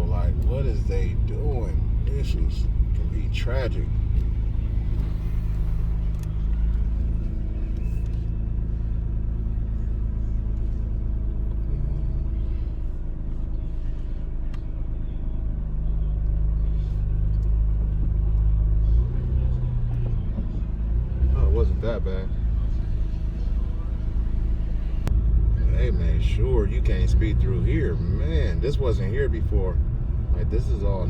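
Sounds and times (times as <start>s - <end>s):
engine and road drone: 0.0s - 31.0s.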